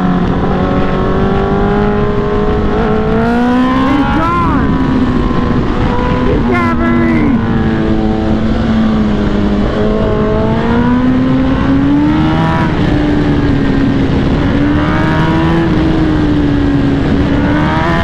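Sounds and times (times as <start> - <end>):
motorcycle engine running: 0.0 - 18.0
wind rush: 0.0 - 18.0.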